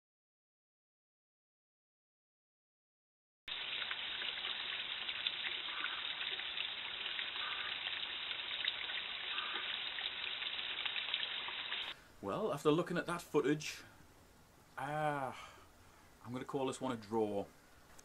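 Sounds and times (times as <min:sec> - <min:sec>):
outdoor background hiss: 0:03.5 - 0:18.0.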